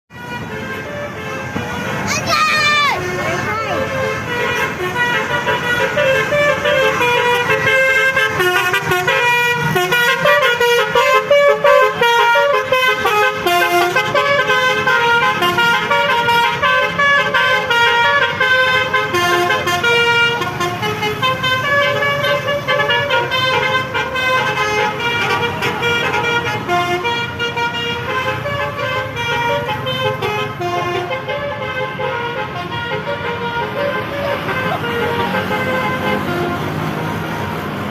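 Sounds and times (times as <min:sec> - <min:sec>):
air horns playing a tune: 0:00.1 - 0:36.9
bus rumbling: 0:00.1 - 0:37.9.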